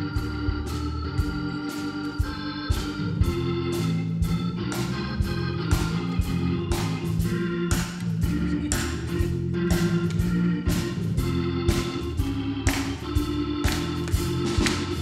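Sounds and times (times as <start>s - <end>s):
drums steady beat: 0.0s - 15.0s
organ chords: 0.0s - 15.0s.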